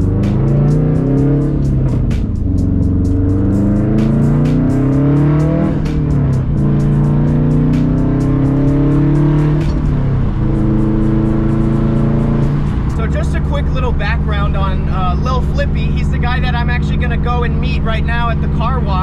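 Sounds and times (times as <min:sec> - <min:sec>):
background music with beat: 0:00.0 - 0:19.0
car engine accelerating: 0:00.0 - 0:19.0.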